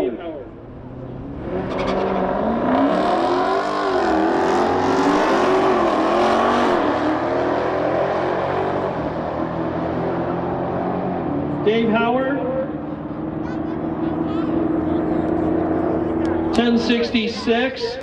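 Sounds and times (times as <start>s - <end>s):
cars racing down drag strip: 0.0s - 18.0s.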